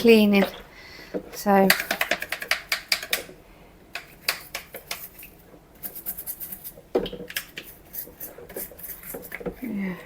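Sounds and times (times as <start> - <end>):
small hard items clicking: 1.6 - 9.8.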